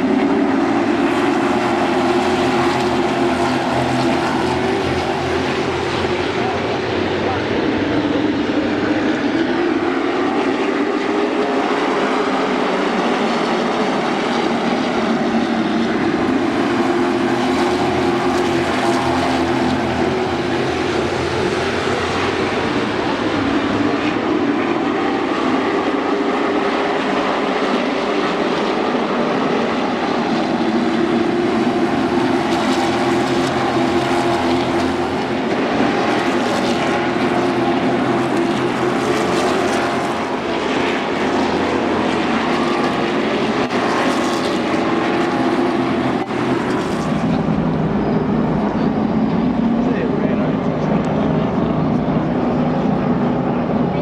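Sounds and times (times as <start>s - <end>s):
race car engines running: 0.0s - 54.0s.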